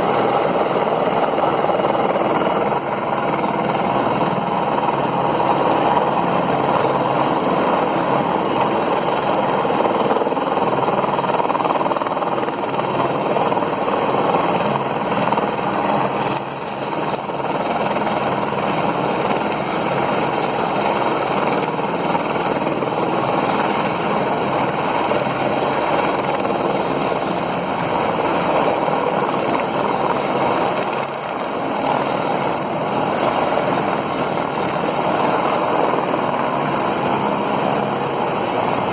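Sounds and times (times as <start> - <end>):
helicopter rotor chopping: 0.0 - 38.9.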